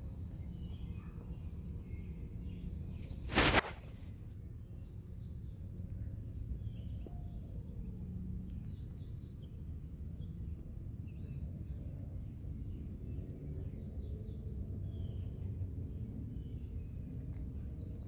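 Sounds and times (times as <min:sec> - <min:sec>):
low steady rumble: 0:00.0 - 0:18.0
faint bird chirps: 0:00.3 - 0:04.0, 0:04.6 - 0:18.0.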